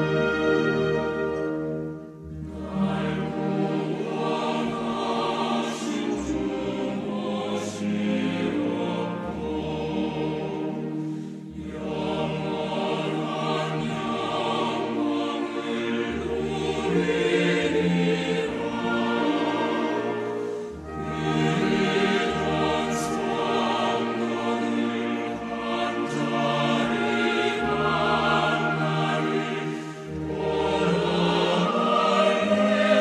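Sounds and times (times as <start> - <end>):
choir singing held chords: 0.0 - 33.0.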